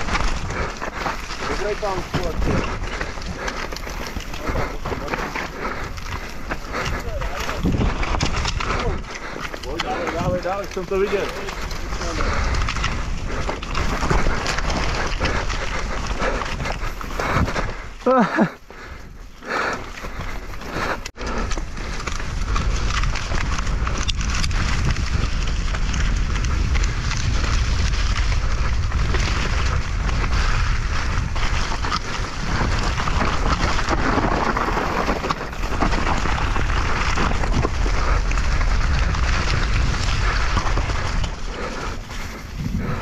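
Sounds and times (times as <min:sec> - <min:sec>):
wind buffeting on microphone: 0:00.0 - 0:18.0, 0:18.7 - 0:43.0
dense uneven rattle: 0:00.0 - 0:43.0.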